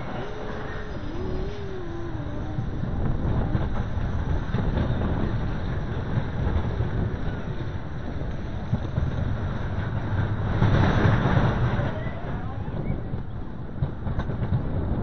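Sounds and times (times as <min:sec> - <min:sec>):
roller coaster rumbling on track: 0:00.0 - 0:15.0
wind on microphone: 0:00.0 - 0:15.0.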